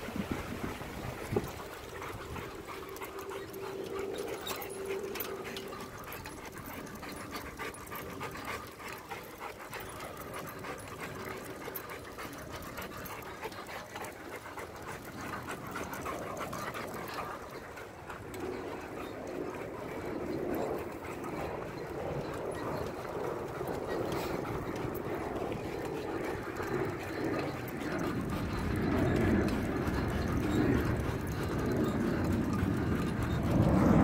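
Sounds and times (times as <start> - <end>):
dog panting: 0.6 - 34.0.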